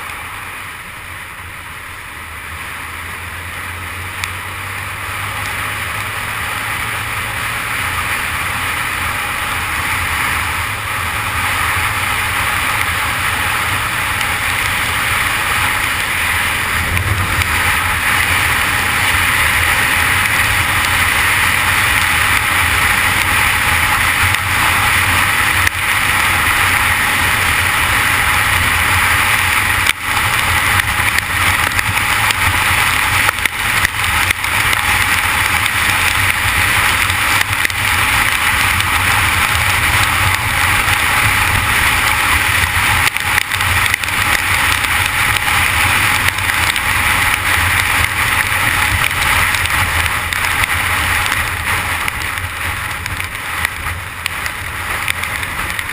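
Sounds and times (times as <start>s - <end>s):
motorcycle engine droning: 0.0s - 55.9s
wind and rain noise on microphone: 0.0s - 55.9s.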